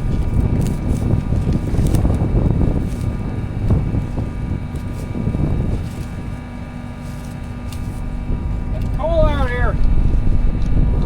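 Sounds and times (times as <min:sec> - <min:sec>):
skid loader engine rumbling: 0:00.0 - 0:11.0.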